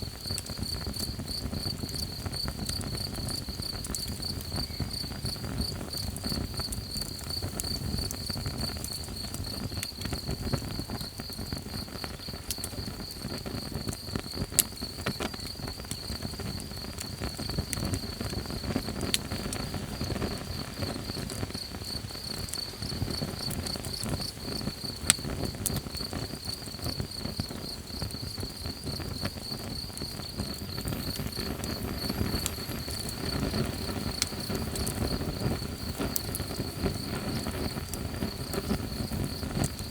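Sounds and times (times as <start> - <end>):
campfire crackling: 0.0 - 39.9
crickets chirping: 0.0 - 39.9
sharp pops from fire: 0.0 - 39.9.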